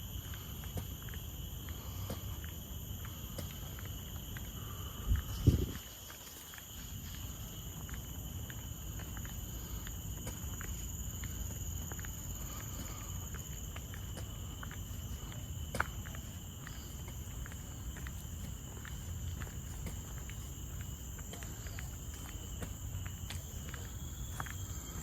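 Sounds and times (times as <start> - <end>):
footsteps on a path: 0.0 - 25.0
forest insects droning: 0.0 - 25.0.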